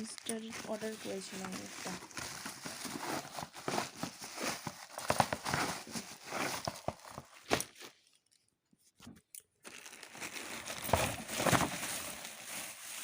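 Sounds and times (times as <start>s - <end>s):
packaging crinkling and tearing: 0.0s - 8.4s, 9.5s - 13.0s.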